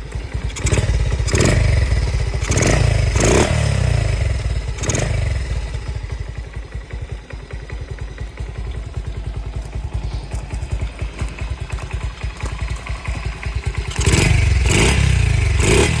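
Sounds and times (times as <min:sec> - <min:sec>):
minibike engine idling and revving: 0:00.0 - 0:16.0.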